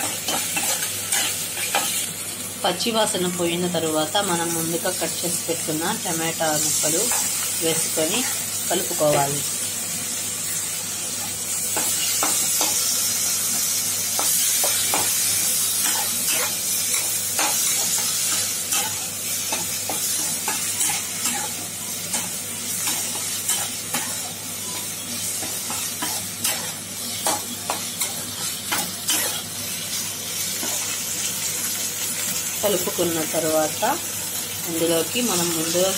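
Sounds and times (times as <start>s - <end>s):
vegetables sizzling in oil: 0.0s - 35.9s.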